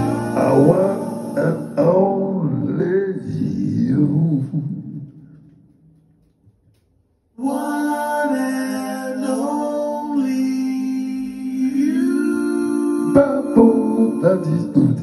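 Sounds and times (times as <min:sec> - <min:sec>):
man singing long notes: 0:00.0 - 0:04.9, 0:07.4 - 0:15.0.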